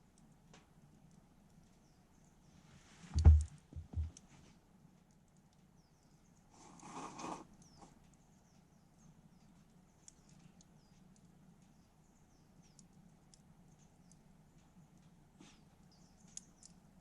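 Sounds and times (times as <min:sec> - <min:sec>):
faint campfire crackling: 0:00.0 - 0:17.0.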